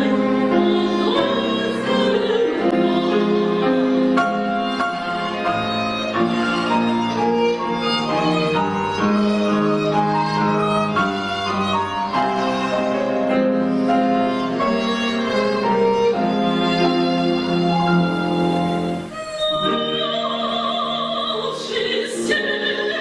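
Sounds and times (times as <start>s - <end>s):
string and piano accompaniment: 0.0s - 23.0s
violin melody: 0.0s - 23.0s.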